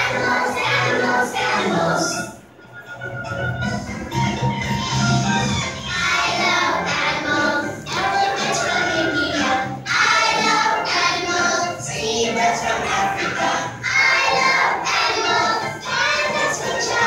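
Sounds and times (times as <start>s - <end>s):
children singing to music: 0.0s - 2.6s, 3.6s - 17.0s.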